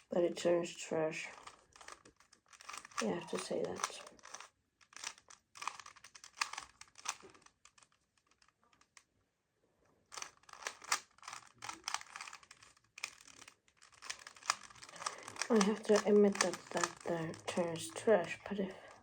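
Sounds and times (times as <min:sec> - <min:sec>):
puzzle cube layers clacking: 0:01.4 - 0:09.0, 0:10.1 - 0:19.0.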